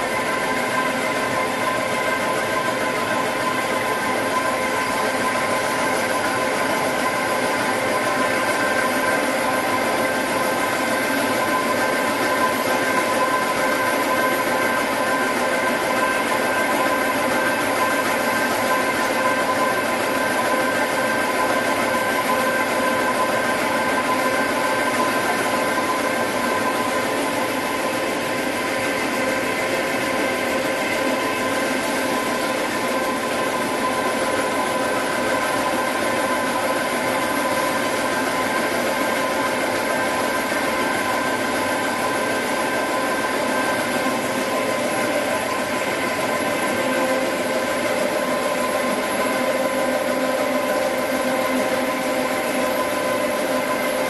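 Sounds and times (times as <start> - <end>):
machine clatter: 0.0 - 54.0
machine whining tones: 0.0 - 54.0
printing machine drone: 0.0 - 54.0.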